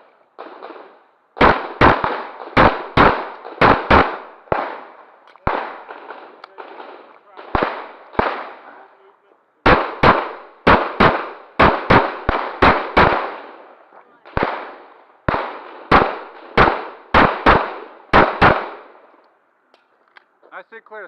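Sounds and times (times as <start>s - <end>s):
pistol shots echoing: 0.4s - 8.9s, 9.6s - 19.2s.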